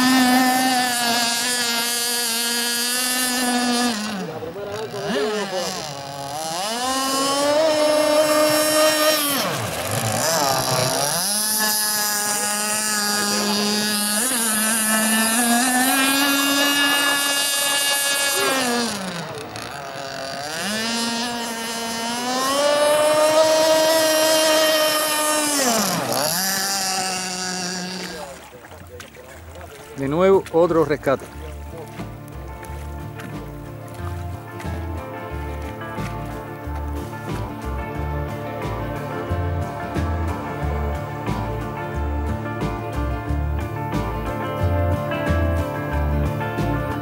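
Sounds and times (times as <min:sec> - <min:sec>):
model speedboat engine revving: 0:00.0 - 0:47.0.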